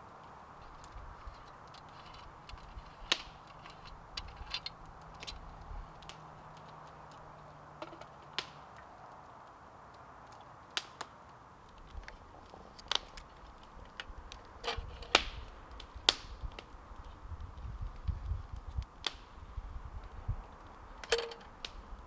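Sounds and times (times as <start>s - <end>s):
campfire crackling: 0.0s - 22.0s
faint steady hiss: 0.0s - 22.0s.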